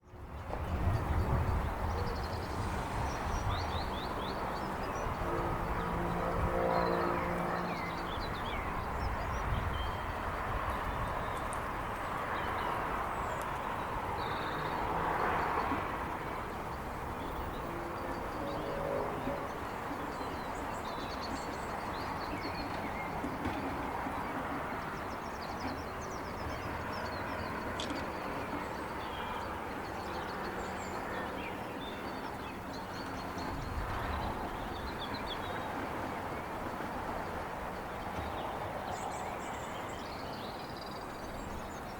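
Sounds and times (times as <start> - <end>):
distant traffic noise: 0.0 - 41.9.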